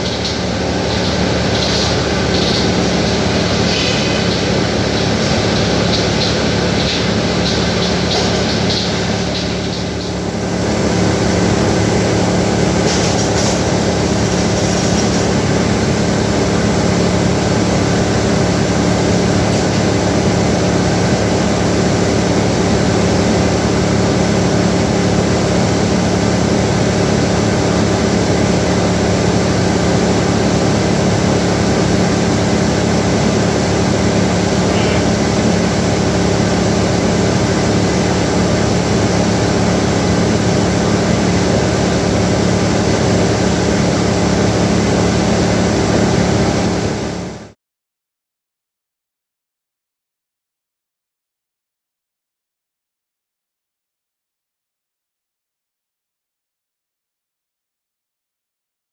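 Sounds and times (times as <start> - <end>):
sawmill machinery humming: 0.0 - 47.5.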